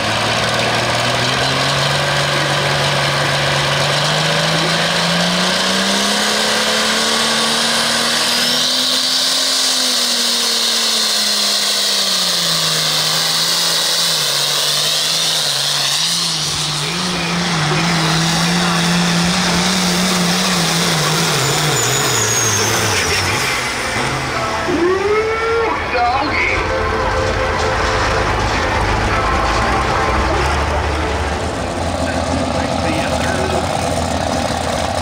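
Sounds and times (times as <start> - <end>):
tractor engine revving: 0.0 - 35.0.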